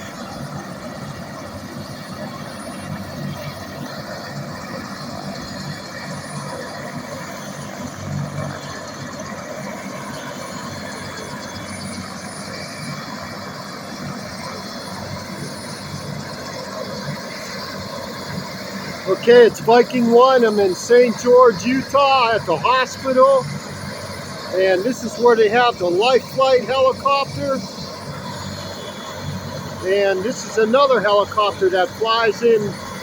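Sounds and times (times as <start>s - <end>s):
faint high whine: 0.0s - 33.0s
helicopter turbine and rotor: 0.0s - 33.0s.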